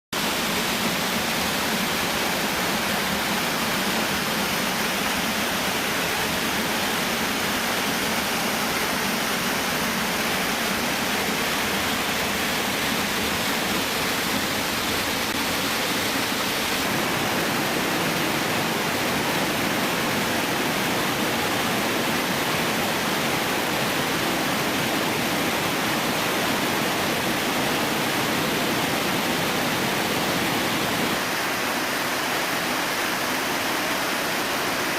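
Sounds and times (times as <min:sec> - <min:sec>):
waterfall pouring: 0:00.2 - 0:32.4.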